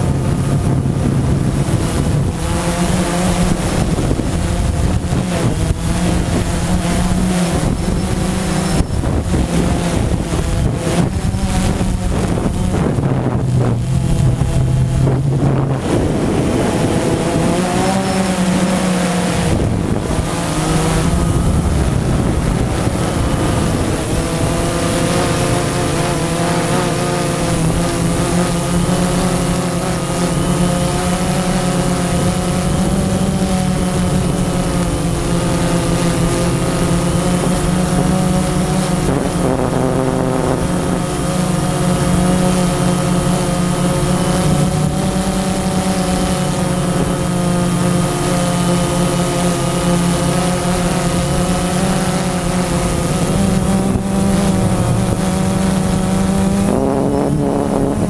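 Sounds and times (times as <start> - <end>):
drone propellers buzzing: 0.0 - 58.0
wind on microphone: 0.0 - 58.0.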